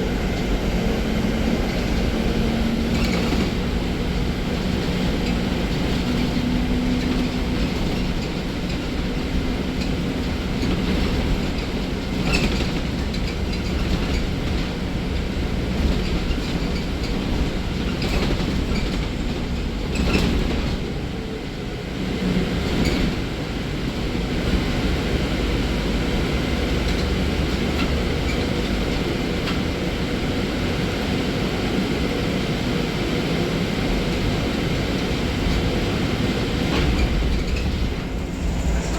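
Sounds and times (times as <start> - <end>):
bus body rattling: 0.0 - 21.4, 22.1 - 38.9
bus road rumble and tyre noise: 0.0 - 38.9.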